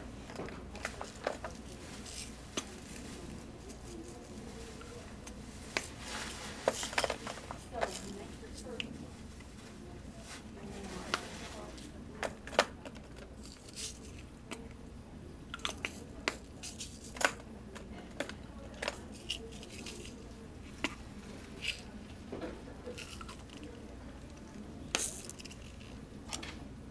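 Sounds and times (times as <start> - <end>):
soft rustles of handling: 0.2 - 14.7, 15.6 - 26.7.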